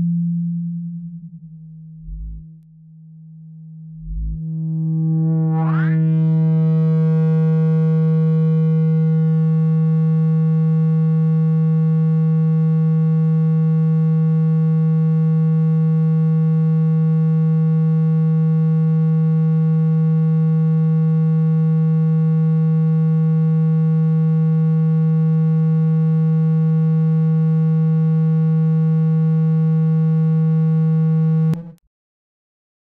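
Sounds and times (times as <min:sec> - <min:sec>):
low buzzy electronic tone: 0:00.0 - 0:31.8.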